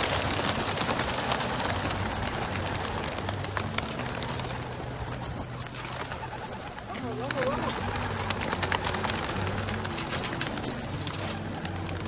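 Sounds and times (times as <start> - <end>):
low steady hum: 0.0 - 12.0
pigeon wings flapping: 0.0 - 12.0.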